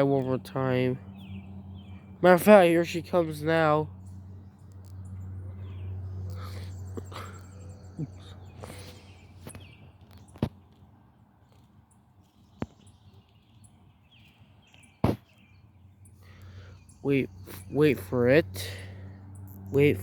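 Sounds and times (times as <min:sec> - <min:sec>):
distant airplane engine droning: 0:00.0 - 0:20.0
faint birds chirping: 0:00.0 - 0:20.0.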